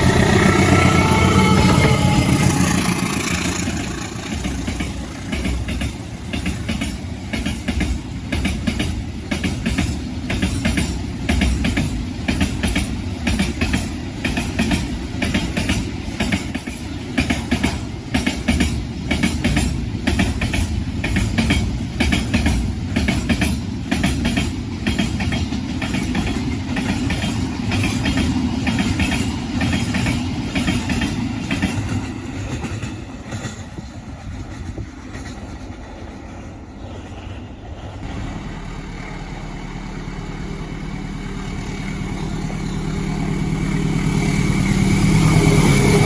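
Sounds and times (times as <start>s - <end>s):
train rumble: 0.0s - 46.0s
train wheels clicking over rail joints: 0.0s - 46.0s.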